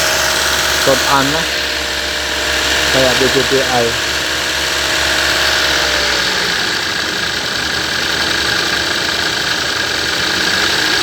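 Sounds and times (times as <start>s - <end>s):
car engine running: 0.0s - 11.0s
strange whirring alternator noise: 0.0s - 11.0s.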